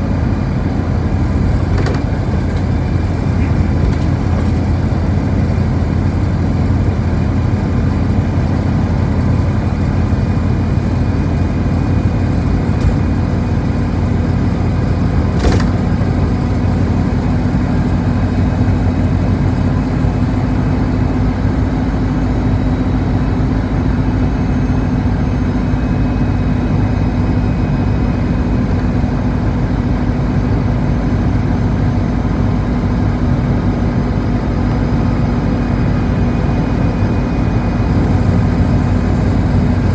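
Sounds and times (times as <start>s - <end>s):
bus engine and tyre drone: 0.0s - 39.9s.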